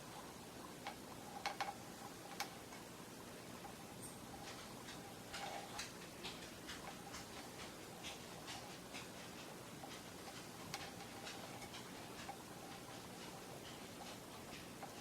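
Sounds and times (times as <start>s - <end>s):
low room hiss: 0.0s - 15.0s
light clicks and ticks: 0.8s - 2.9s, 3.6s - 15.0s.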